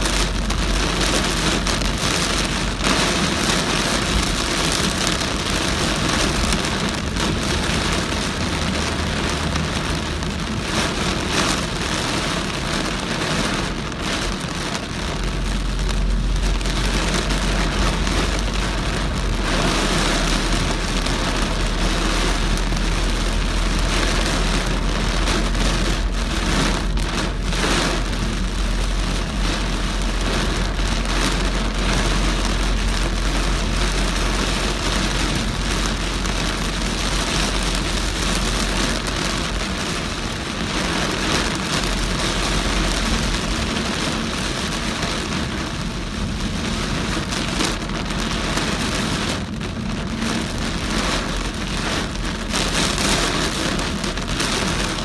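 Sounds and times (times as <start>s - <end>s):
engine and tyres rumbling: 0.0s - 55.0s
heavy rain on a car: 0.0s - 55.0s.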